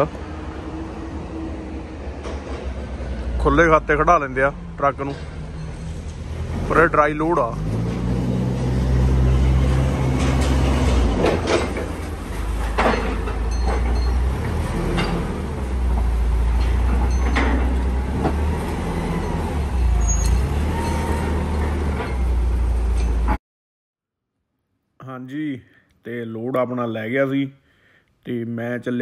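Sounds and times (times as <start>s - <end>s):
diesel truck engine rumbling: 0.0s - 23.4s.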